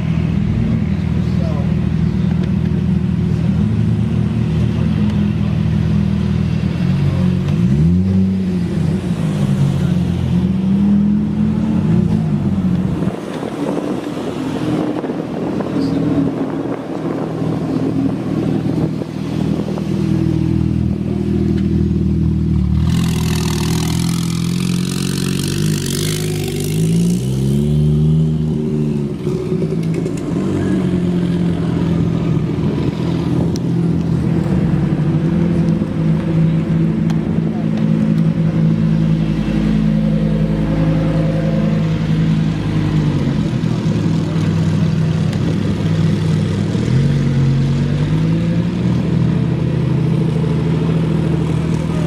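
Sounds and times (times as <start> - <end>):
sports car engine revving: 0.2 - 52.0.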